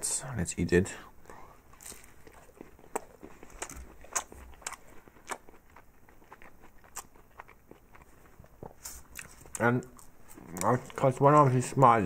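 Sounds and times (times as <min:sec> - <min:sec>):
chewing crisp crackles: 0:01.3 - 0:12.0.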